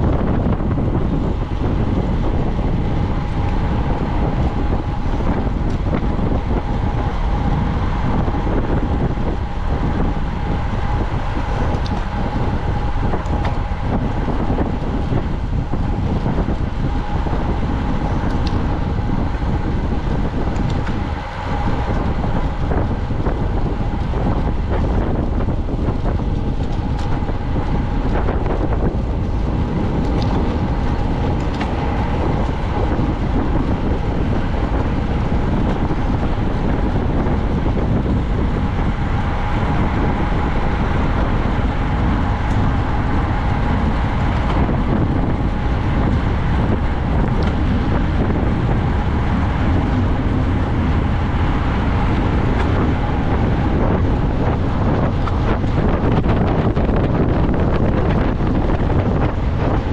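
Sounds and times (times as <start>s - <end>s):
thin steady hum: 0.0s - 59.9s
wind rushing on microphone: 0.0s - 59.9s.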